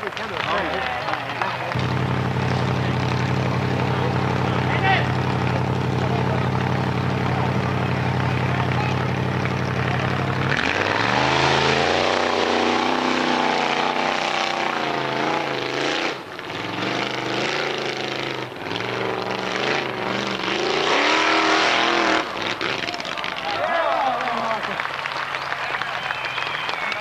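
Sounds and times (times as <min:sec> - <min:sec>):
buggy engine revving hard: 0:00.2 - 0:23.4.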